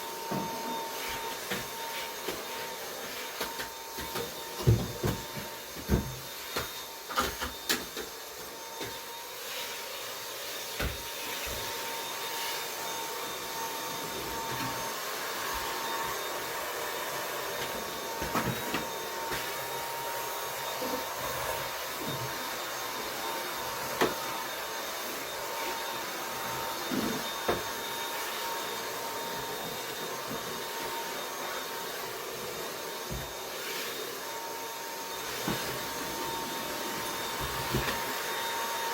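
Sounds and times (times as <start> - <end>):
vacuum cleaner running with whine: 0.0 - 38.9.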